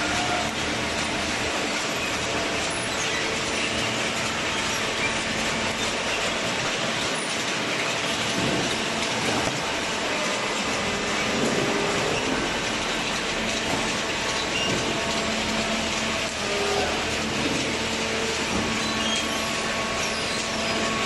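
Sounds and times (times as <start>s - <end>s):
cardboard baler running: 0.0s - 21.0s.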